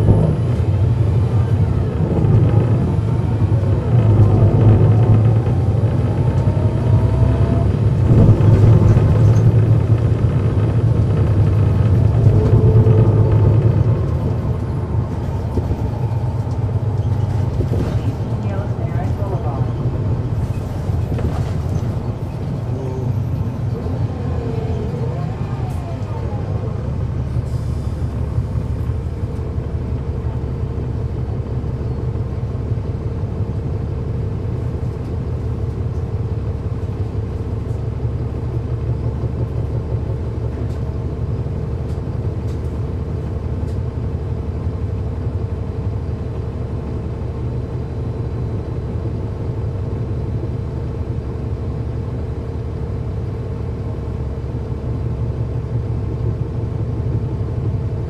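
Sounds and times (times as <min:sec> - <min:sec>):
bus diesel engine droning: 0:00.0 - 0:58.0
steady engine whine: 0:00.0 - 0:58.0.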